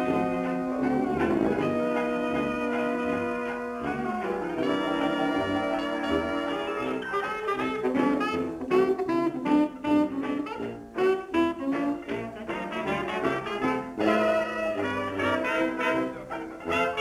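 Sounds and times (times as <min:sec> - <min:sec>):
lively jazz with horns: 0:00.0 - 0:17.0.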